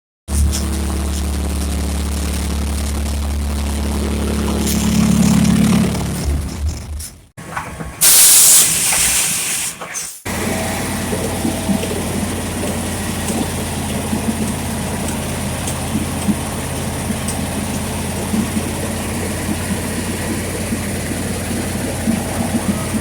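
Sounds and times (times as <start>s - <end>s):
heavy diesel engine running: 0.3s - 23.0s.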